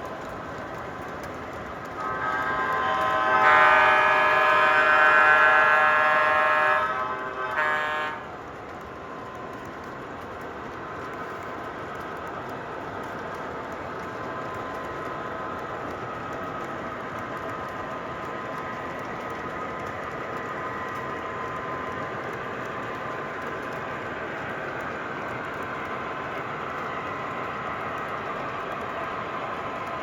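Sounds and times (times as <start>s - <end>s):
model train diesel engine sound: 0.0s - 30.0s
model train running on track: 0.0s - 30.0s.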